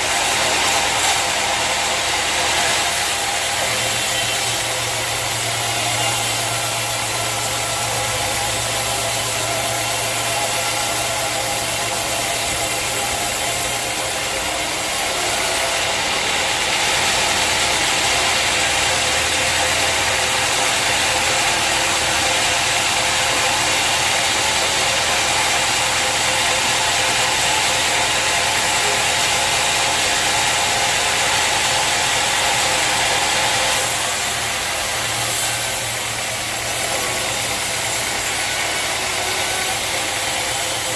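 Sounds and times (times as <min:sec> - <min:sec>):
sawmill engine hum: 0:00.0 - 0:40.9.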